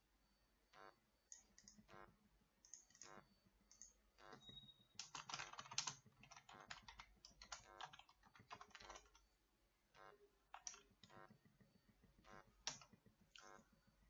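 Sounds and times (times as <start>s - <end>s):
faint keyboard typing: 1.3s - 9.4s, 10.0s - 14.0s.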